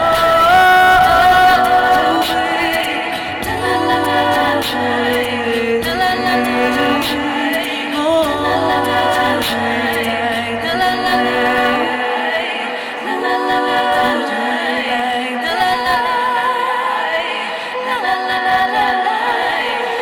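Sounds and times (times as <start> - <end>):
voices singing in harmony: 0.0 - 20.0.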